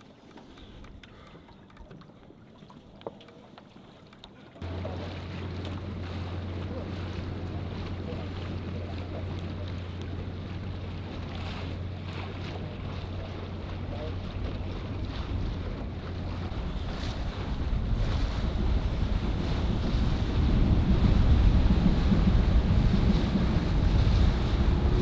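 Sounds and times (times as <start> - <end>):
motor boat engine humming: 0.0 - 25.0
water rushing: 1.1 - 25.0
wind buffeting microphone: 4.6 - 25.0.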